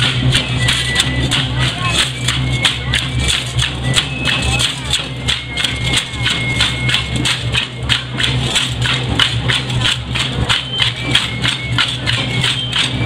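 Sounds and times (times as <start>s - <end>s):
hand rattles shaken rhythmically: 0.0s - 13.0s.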